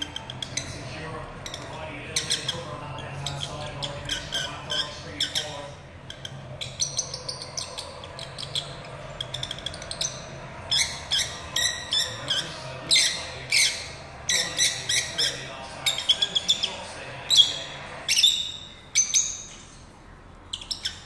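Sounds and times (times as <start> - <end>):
lovebird chirping and squawking: 0.0 - 21.0.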